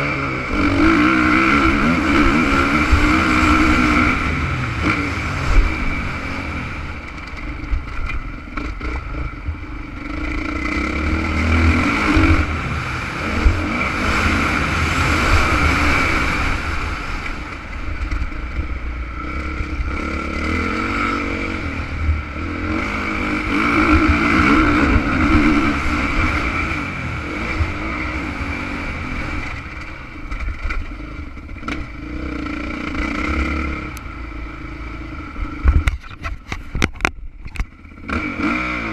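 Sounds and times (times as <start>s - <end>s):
motocross bike engine revving: 0.0s - 36.8s, 37.6s - 38.9s.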